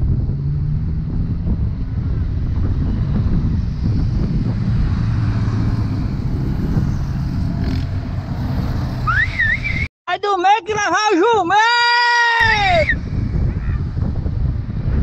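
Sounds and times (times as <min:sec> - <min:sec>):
road traffic passing: 0:00.0 - 0:09.9, 0:12.4 - 0:15.0.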